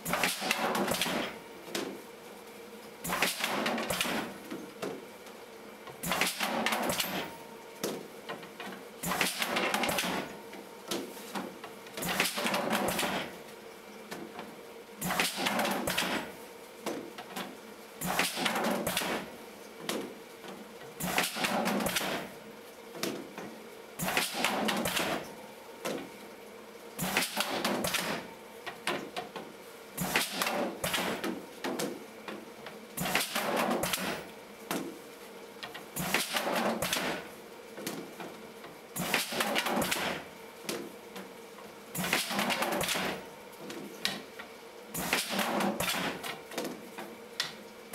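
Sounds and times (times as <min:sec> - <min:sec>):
pneumatic clacks and hiss: 0:00.0 - 0:02.0, 0:03.0 - 0:05.0, 0:05.8 - 0:26.2, 0:27.0 - 0:47.6.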